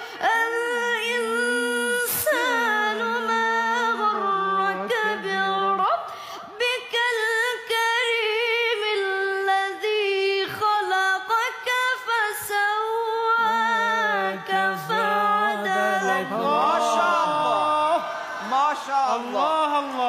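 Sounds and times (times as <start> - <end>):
boy reciting melodically: 0.2 - 5.9, 6.5 - 17.8.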